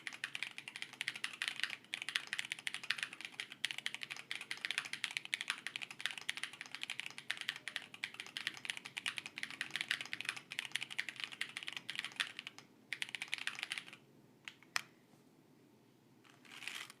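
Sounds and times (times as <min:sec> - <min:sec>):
fast typing on mechanical keyboard: 0:00.0 - 0:14.6.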